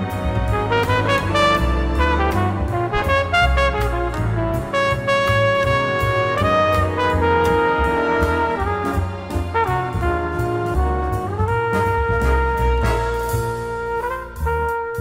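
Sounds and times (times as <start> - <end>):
instrumental music with beat: 0.0 - 15.0
pulsing bass line: 0.0 - 15.0.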